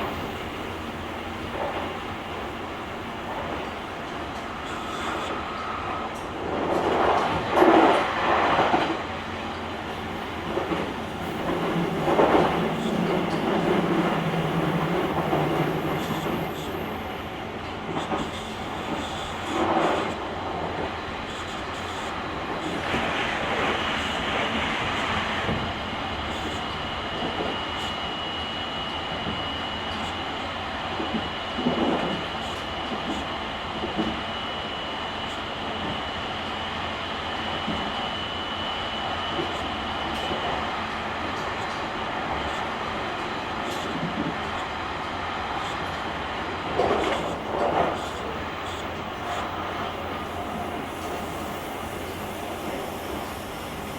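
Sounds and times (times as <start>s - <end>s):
train wheel and rail rumble: 0.0s - 53.9s.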